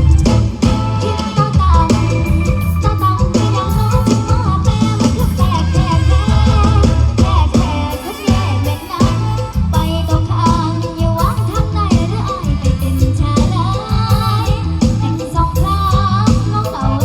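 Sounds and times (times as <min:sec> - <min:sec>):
heavy bass and drum beat: 0:00.0 - 0:17.0
live band music: 0:00.0 - 0:17.0.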